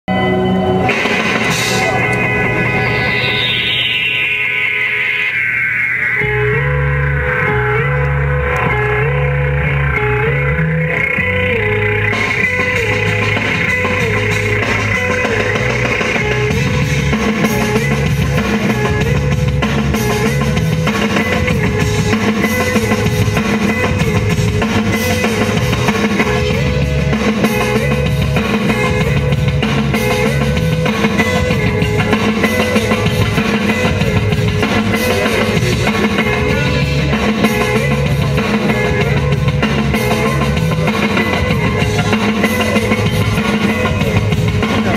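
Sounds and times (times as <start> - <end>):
rock music: 0.1 - 44.9.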